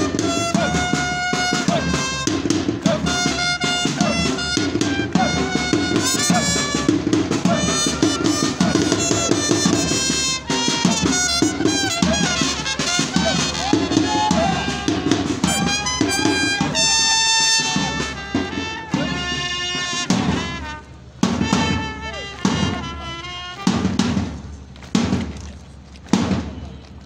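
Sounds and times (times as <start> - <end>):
brass band music: 0.0 - 25.1
marching drum beat: 0.0 - 27.0.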